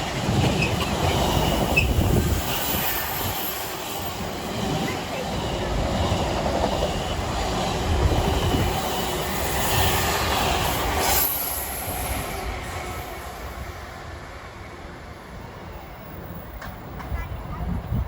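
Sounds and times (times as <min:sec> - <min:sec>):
passenger train rushing past: 0:00.0 - 0:18.0
train wheels on rails: 0:00.0 - 0:18.0.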